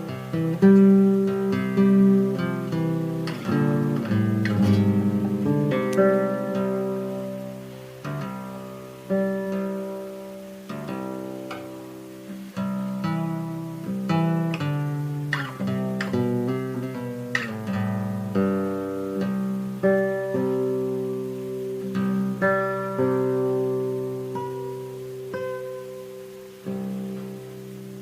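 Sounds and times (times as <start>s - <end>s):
acoustic guitar: 0.0s - 28.0s.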